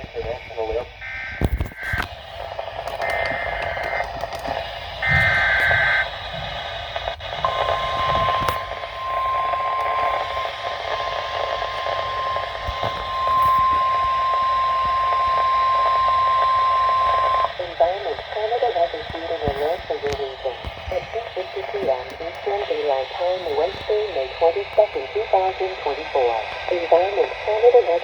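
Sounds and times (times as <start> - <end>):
radio static: 0.0 - 28.0
steady warning alarm tone: 0.0 - 28.0.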